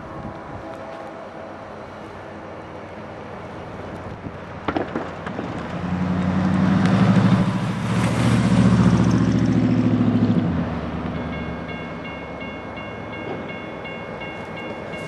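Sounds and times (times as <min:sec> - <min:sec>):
diesel locomotives rumbling: 0:00.0 - 0:15.0.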